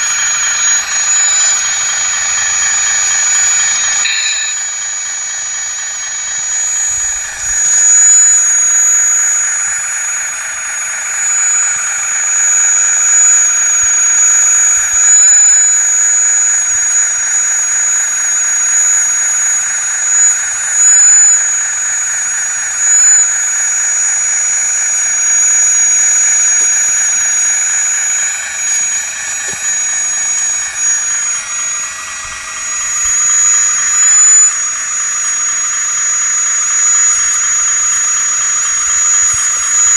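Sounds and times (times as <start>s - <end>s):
hydraulic pump and motor whining: 0.0s - 39.9s.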